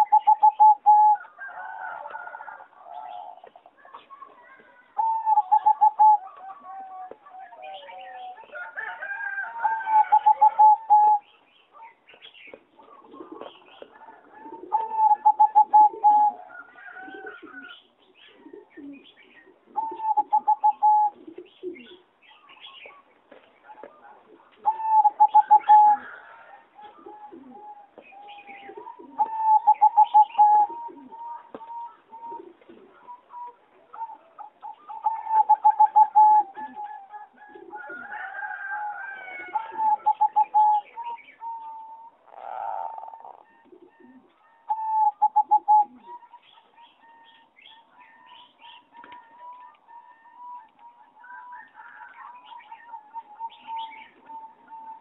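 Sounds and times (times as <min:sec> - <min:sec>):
dove cooing song: 0:00.0 - 0:55.0.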